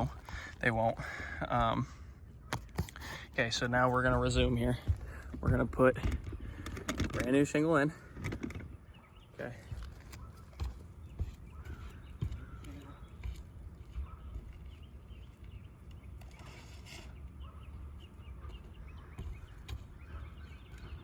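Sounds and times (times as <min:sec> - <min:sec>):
shingle scraping: 0:00.0 - 0:08.9, 0:09.5 - 0:21.0.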